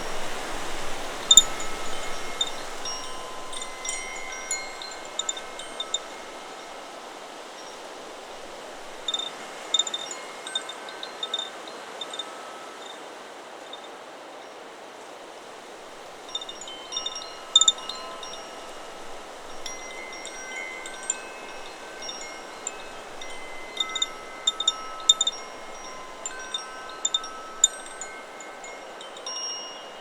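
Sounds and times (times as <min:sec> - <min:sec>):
wind chime tubes clanging: 0:00.0 - 0:13.1, 0:15.9 - 0:30.0
wind hiss: 0:00.0 - 0:30.0.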